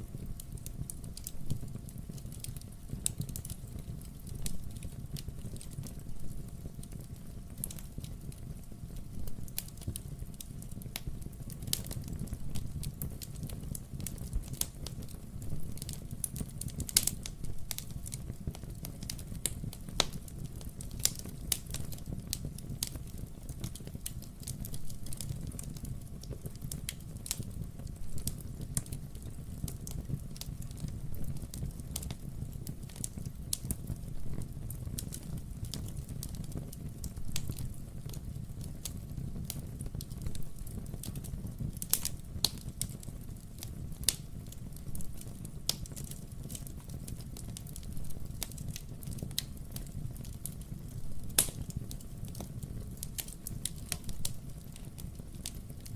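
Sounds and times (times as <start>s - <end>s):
low fire rumble: 0.0s - 55.9s
wood fire crackling and popping: 0.0s - 55.9s.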